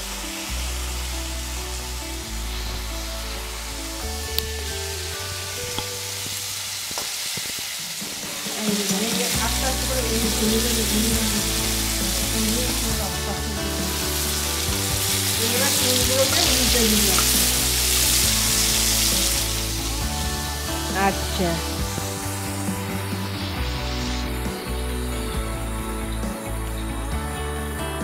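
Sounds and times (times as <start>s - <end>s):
prawns sizzling in hot oil: 0.0s - 26.3s.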